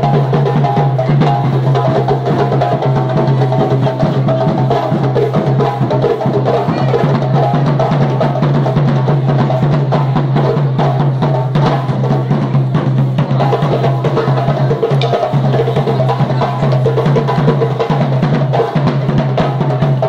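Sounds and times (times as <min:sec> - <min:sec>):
hand drums playing samba: 0:00.0 - 0:20.0.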